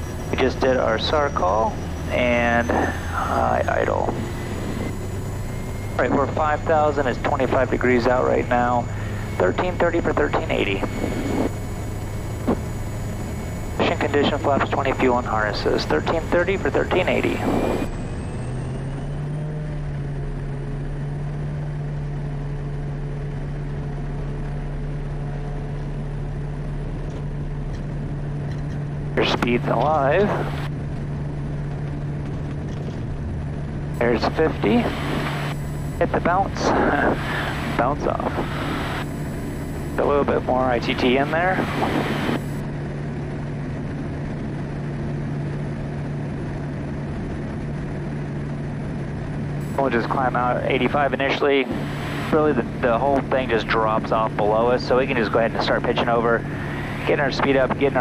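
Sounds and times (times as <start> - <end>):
turbine whine: 0.0 - 58.0
turboprop engine drone: 0.0 - 58.0.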